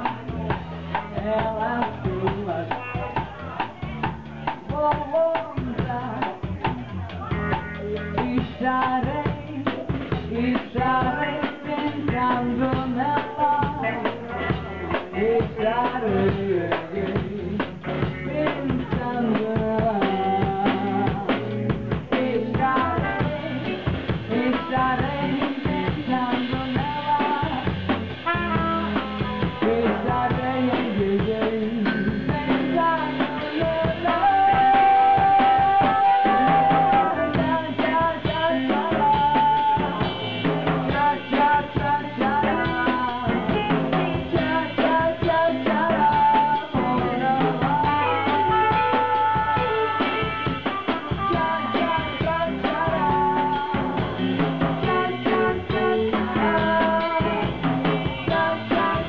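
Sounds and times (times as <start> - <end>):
drum kit steady beat: 0.0 - 59.0
live band music: 0.0 - 59.0.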